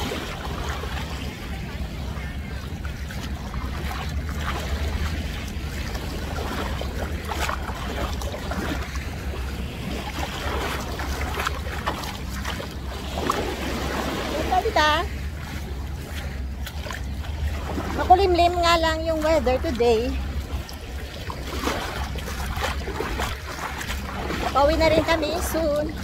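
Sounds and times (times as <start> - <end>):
small waves lapping: 0.0 - 26.0
wind rumbling on microphone: 0.0 - 26.0.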